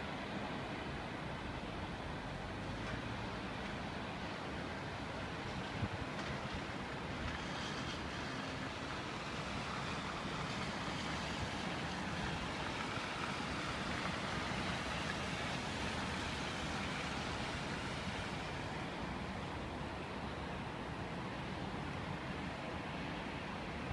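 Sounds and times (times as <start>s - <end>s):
distant city traffic rumble: 0.0s - 23.9s.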